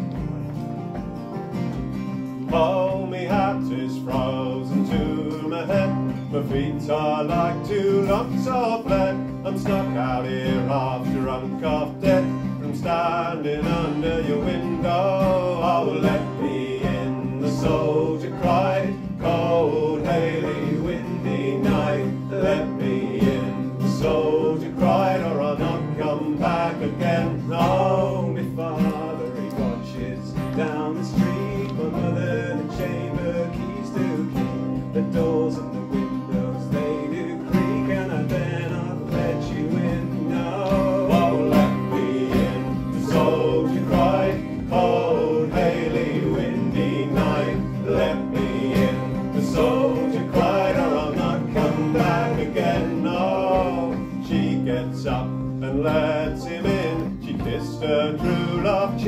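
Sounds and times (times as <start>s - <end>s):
acoustic guitars: 0.0s - 59.0s
banjo: 0.0s - 59.0s
man singing: 2.3s - 59.0s.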